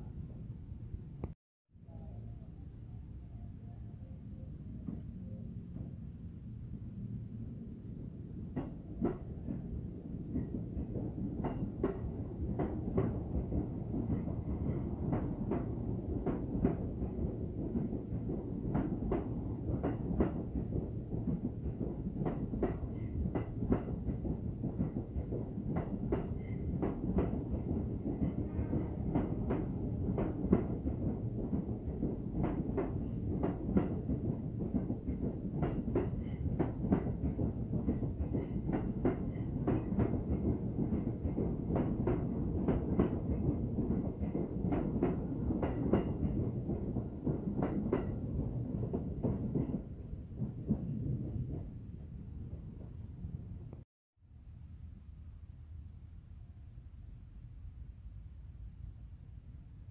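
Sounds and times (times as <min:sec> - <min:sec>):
train wheels rumbling: 0:04.6 - 0:53.8.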